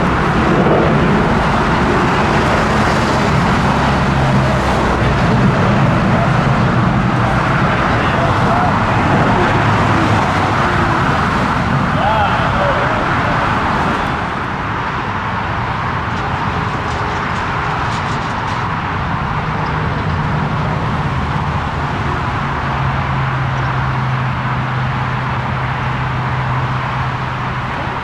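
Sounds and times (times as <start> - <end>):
jet engine noise: 0.0 - 28.0.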